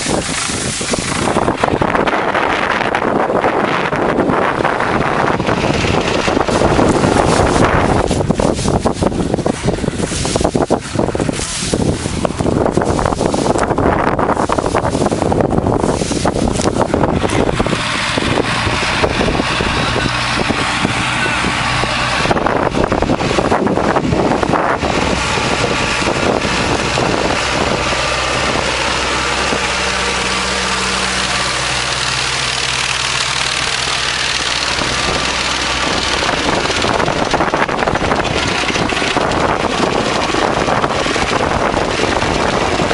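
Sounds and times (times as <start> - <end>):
dense rushing noise: 0.0 - 42.9
mower engine humming: 0.0 - 42.9.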